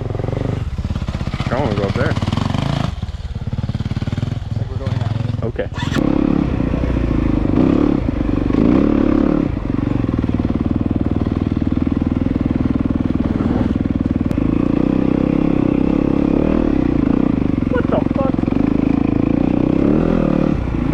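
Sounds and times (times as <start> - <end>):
dirt bike engine running: 0.0 - 20.9.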